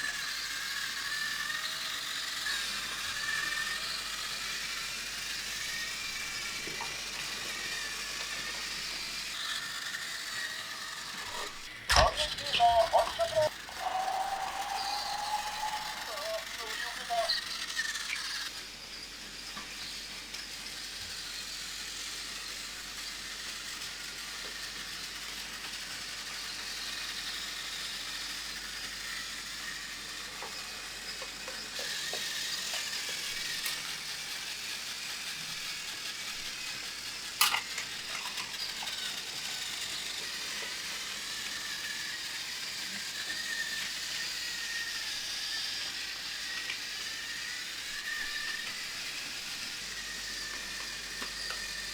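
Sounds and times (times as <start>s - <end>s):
toy trains whirring on track: 0.0s - 51.9s.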